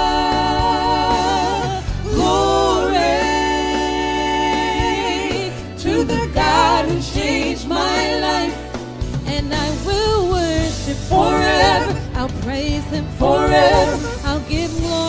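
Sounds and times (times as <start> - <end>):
instrumental accompaniment: 0.0 - 15.0
steady bass line: 0.0 - 15.0
women singing gospel: 0.0 - 15.0.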